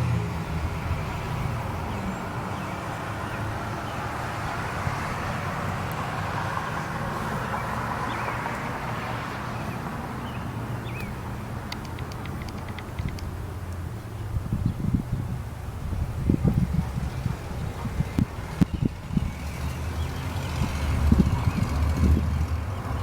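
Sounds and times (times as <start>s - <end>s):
passing traffic: 0.0s - 23.0s
vehicle engine hum: 0.0s - 23.0s.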